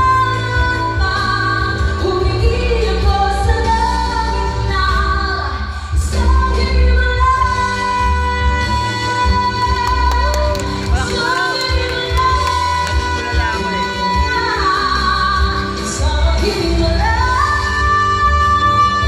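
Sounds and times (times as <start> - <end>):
instrumental music with strong bass: 0.0 - 19.0
woman singing pop song: 0.0 - 19.0.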